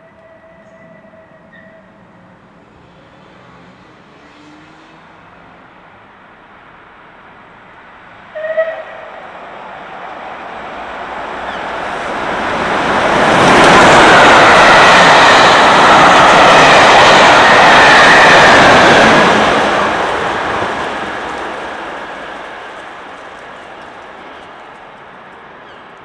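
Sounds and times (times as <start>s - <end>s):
diesel locomotive passing: 0.0s - 26.0s
steam train passing at speed: 0.0s - 26.0s
wheels rumbling on rail: 0.0s - 26.0s.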